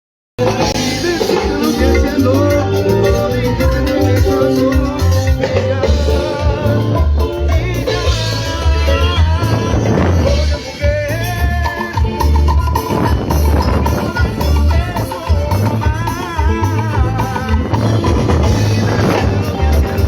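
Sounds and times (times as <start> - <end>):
latin dance music: 0.4 - 20.0.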